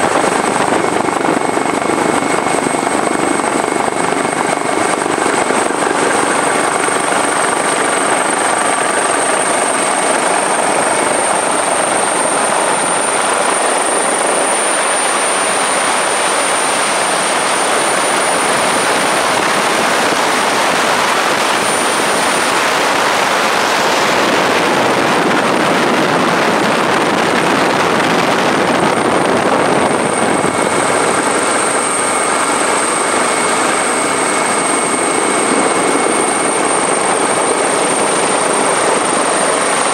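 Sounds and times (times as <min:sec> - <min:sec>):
helicopter rotor and engine rush: 0:00.0 - 0:39.9.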